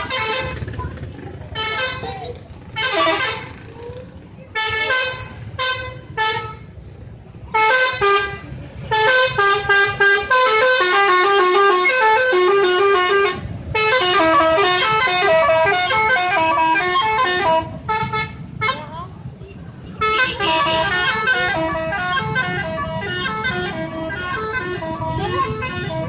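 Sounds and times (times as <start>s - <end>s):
bus musical horn tune: 0.0s - 0.7s, 1.6s - 2.2s, 2.8s - 3.5s, 4.5s - 6.7s, 7.5s - 18.9s, 19.8s - 26.0s.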